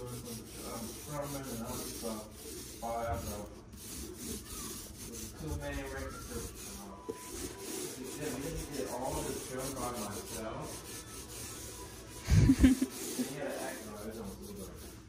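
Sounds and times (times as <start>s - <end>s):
paint roller rubbing: 0.0s - 15.0s.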